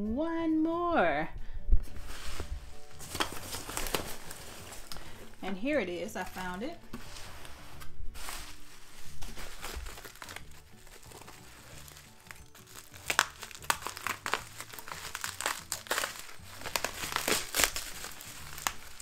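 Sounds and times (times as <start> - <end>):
soft background music: 0.0 - 19.0
bubble wrap crackling: 1.9 - 19.0.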